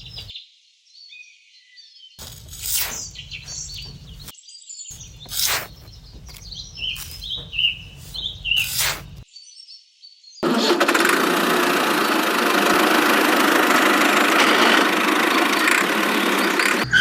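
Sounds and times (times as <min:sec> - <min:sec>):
small birds chirping: 0:00.0 - 0:10.4, 0:13.3 - 0:17.0.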